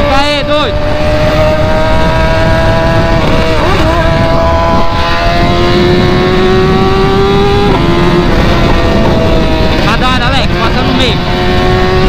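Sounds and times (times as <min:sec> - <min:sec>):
motorcycle engine with loud exhaust: 0:00.0 - 0:12.0.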